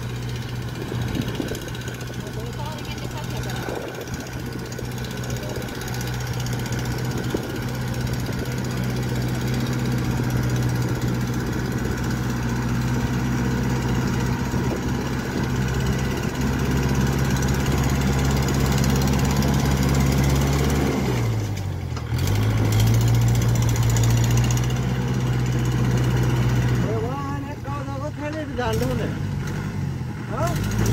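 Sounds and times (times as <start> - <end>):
tractor diesel engine running hard: 0.0 - 30.9.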